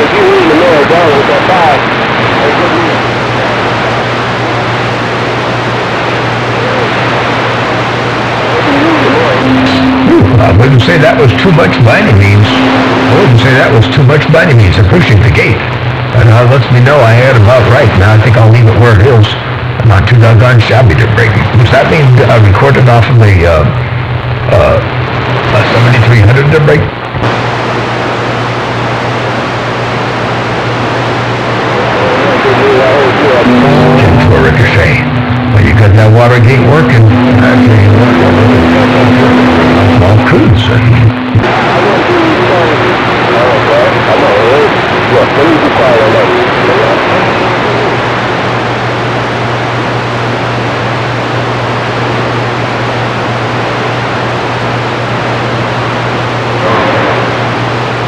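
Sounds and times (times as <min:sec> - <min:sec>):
low hum: 0:00.0 - 0:58.0
radio static: 0:00.0 - 0:58.0.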